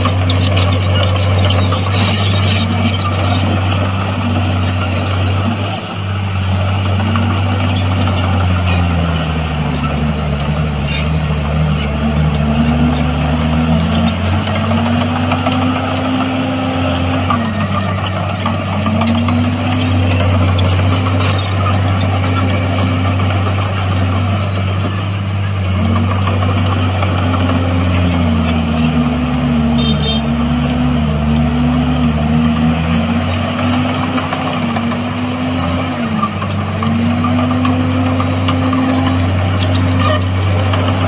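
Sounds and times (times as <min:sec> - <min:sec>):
heavy machinery diesel engine: 0:00.0 - 0:41.0.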